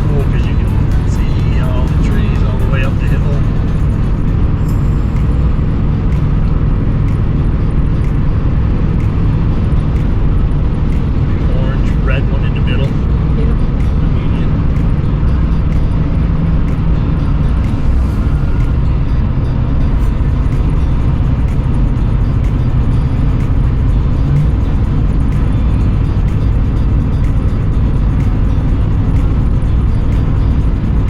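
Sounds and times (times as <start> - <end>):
background music: 0.0 - 31.0
vehicle driving rumble: 0.0 - 31.0.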